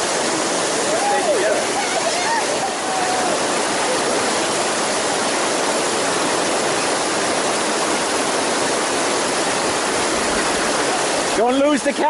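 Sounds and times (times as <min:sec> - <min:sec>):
fast-moving water rushing: 0:00.0 - 0:12.0.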